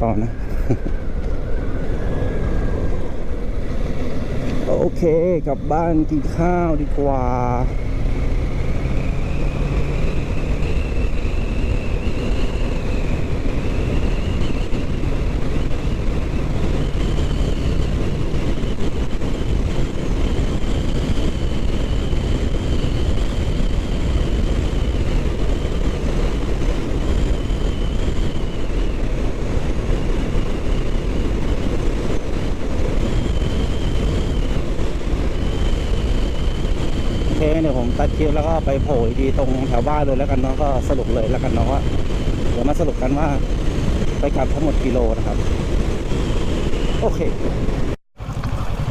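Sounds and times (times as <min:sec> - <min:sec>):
wind rush on microphone: 0:00.0 - 0:48.9
motorcycle engine running: 0:03.4 - 0:48.9.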